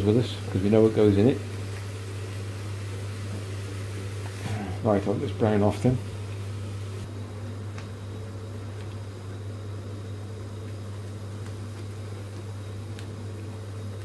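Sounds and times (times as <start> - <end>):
faint sizzling in a pan: 0.0 - 14.0
steady low hum: 0.0 - 14.0.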